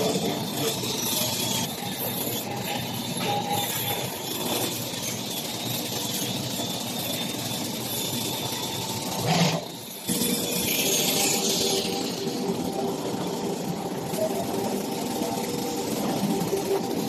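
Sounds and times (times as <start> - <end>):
factory machinery noise: 0.0 - 17.0.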